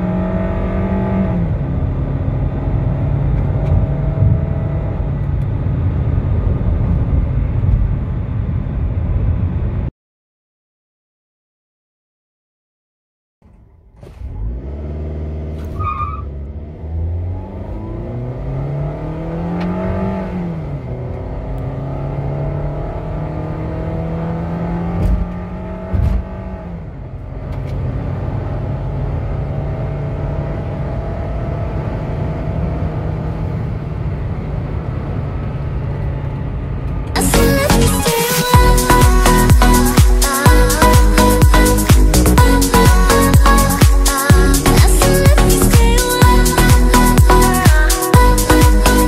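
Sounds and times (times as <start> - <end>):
car engine at full throttle: 0.0 - 9.9, 13.4 - 49.0.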